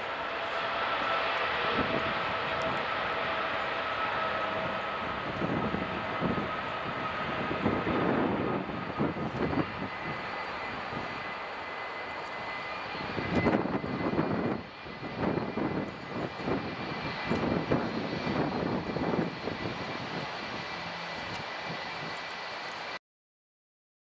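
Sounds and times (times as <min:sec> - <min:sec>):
jet engines at takeoff power: 0:00.0 - 0:23.0.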